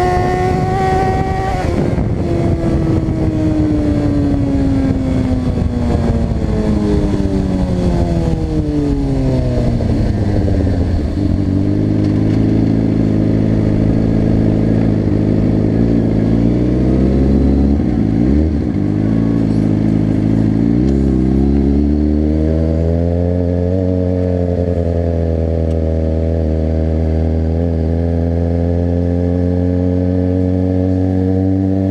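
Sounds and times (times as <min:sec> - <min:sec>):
wind noise rumble: 0:00.0 - 0:27.9
motorcycle engine: 0:00.0 - 0:31.9.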